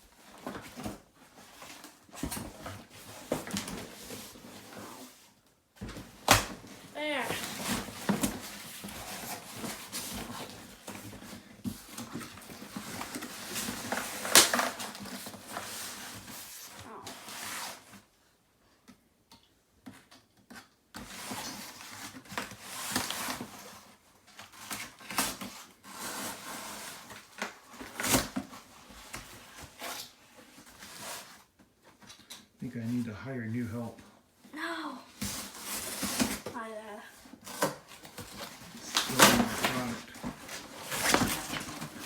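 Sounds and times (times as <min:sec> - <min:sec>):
cardboard rustling and scraping: 0:00.1 - 0:18.3, 0:19.9 - 0:32.1, 0:35.1 - 0:42.0.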